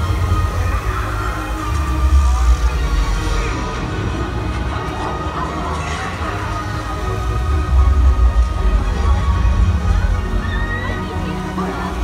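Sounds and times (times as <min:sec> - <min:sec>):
music over outdoor loudspeakers: 0:00.0 - 0:12.0.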